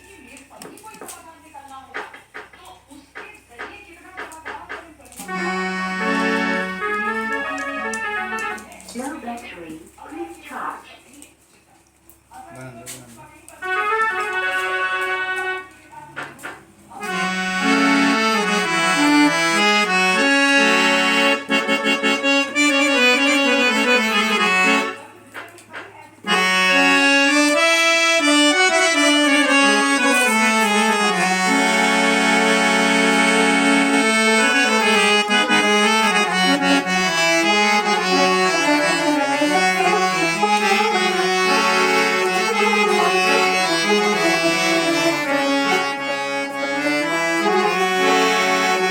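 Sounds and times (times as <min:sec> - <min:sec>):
harmonium playing a melody: 0:00.0 - 0:10.7, 0:12.3 - 0:48.9.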